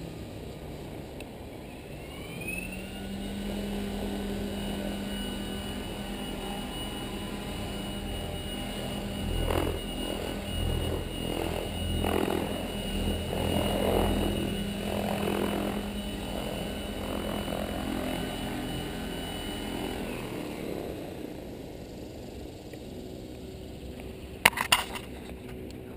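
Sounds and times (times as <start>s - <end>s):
helicopter rotor noise: 0.0s - 25.9s
high motor whine: 0.0s - 25.9s.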